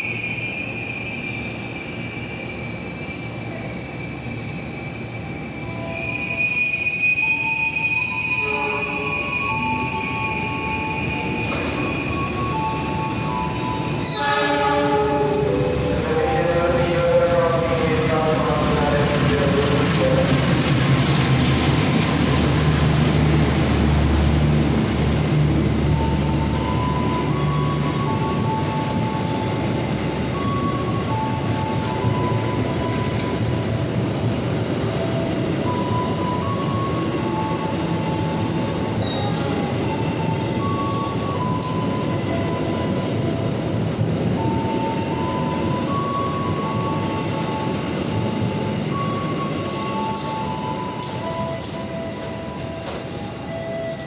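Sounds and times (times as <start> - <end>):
diesel locomotive engine hum: 0.0 - 54.0
train coaches rolling on rails: 0.0 - 54.0.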